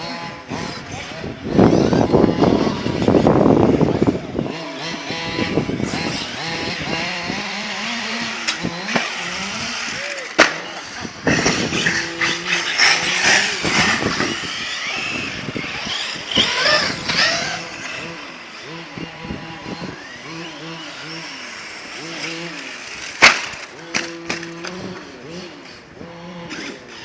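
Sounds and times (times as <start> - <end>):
toy car motor revving: 0.0 - 27.0.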